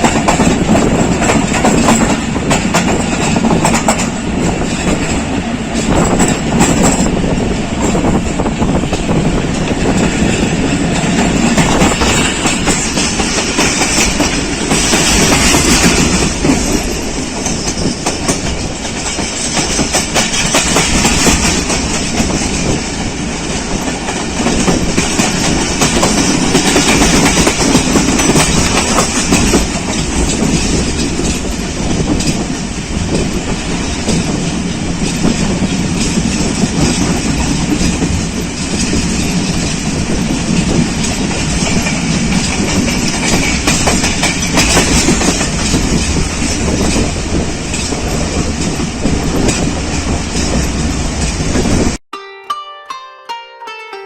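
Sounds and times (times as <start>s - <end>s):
train rumbling past: 0.0s - 52.0s.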